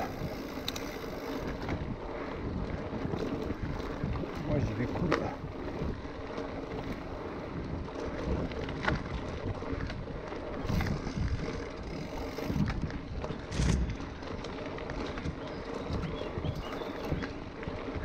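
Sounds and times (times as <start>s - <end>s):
bike rattling over ground: 0.0s - 18.0s
tyre and wind noise: 0.0s - 18.0s.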